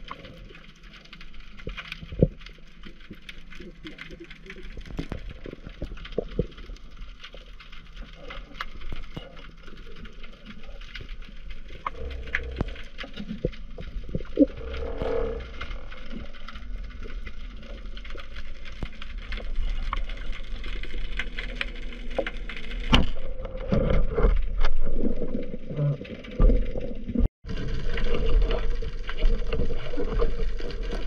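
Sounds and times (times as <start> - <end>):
underwater clicks and knocks: 0.0 - 31.0
low underwater rumble: 1.4 - 31.0.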